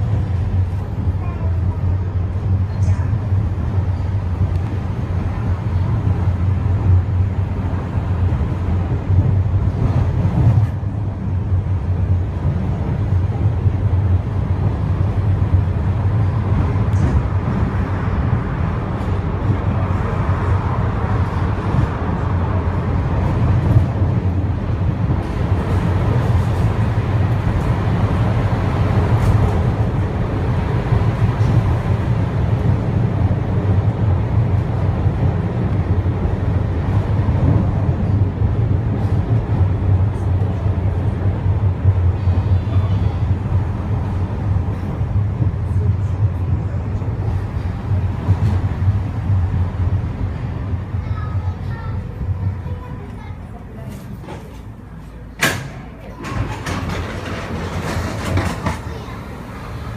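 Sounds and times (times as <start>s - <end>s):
suspension railway car rumbling: 0.0s - 59.9s.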